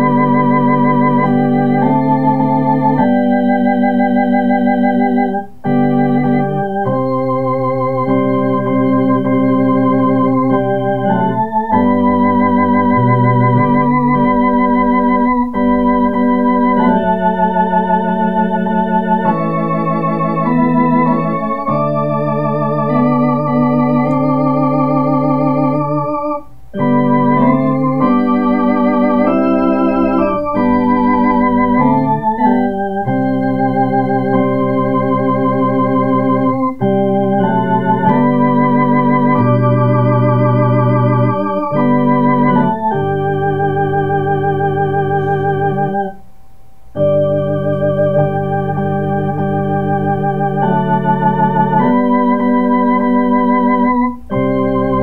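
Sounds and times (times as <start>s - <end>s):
electronic organ playing hymn: 0.0s - 55.0s.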